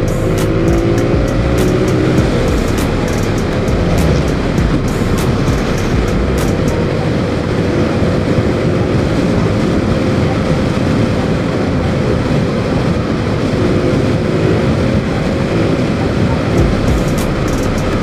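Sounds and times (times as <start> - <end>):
motorcycle engine humming: 0.0 - 18.0
wind rushing over microphone: 0.0 - 18.0.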